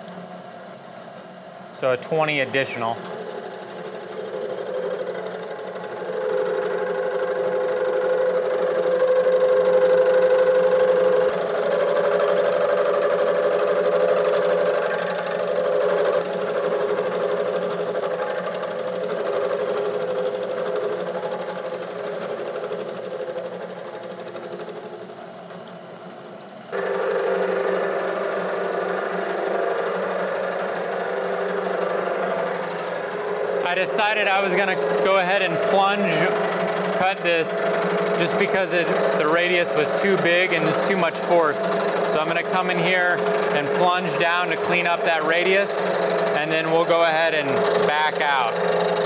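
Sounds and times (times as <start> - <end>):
milling machine chattering: 1.7 - 25.1, 26.7 - 49.0.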